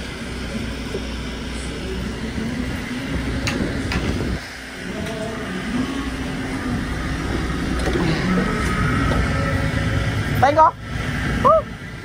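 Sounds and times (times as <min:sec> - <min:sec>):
boat engine and machinery rumble: 0:00.0 - 0:12.0.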